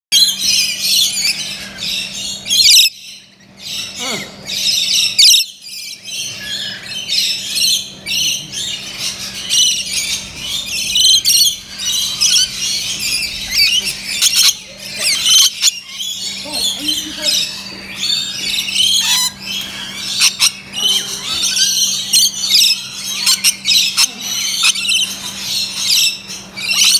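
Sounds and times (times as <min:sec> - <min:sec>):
lorikeets chattering and screeching: 0:00.2 - 0:26.9.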